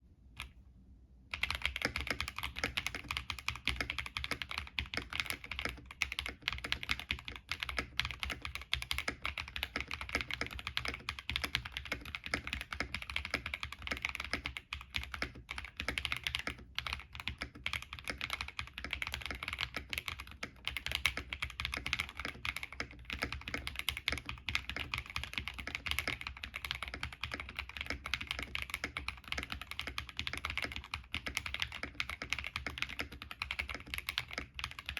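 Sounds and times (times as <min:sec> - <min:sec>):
fast typing on mechanical keyboard: 0:01.3 - 0:34.9.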